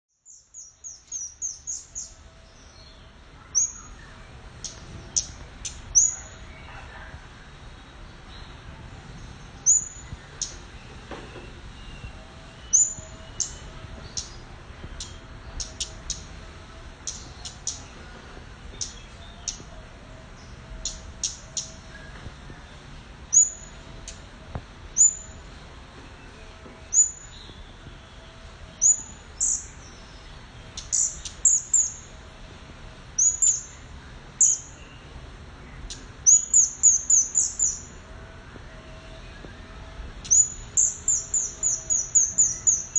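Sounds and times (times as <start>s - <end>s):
bird chirping: 0.1s - 16.4s, 17.0s - 24.3s, 24.9s - 32.2s, 33.2s - 38.0s, 38.6s - 42.9s.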